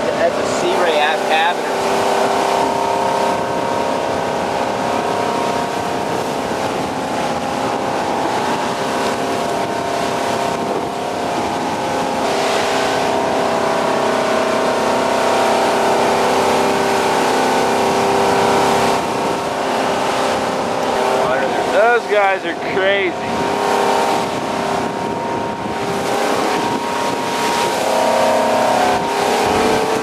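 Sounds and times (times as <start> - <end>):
boat engine droning: 0.0 - 30.0
wind and water rushing: 0.0 - 30.0.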